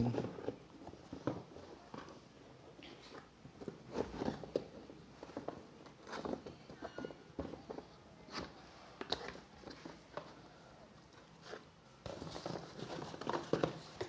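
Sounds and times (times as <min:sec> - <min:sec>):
cardboard box and packaging handled: 0:00.0 - 0:14.0.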